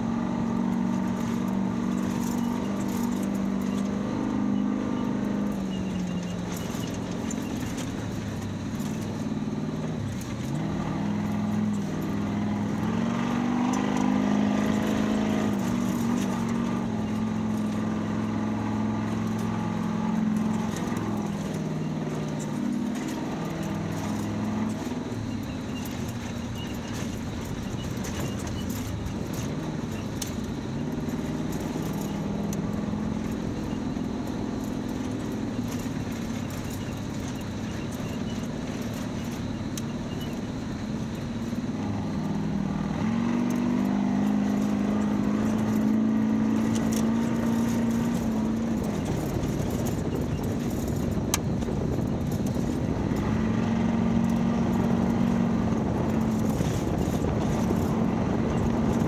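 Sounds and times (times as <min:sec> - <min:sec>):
engine running under load: 0:00.0 - 0:59.0
tyres and wind noise: 0:00.0 - 0:59.0.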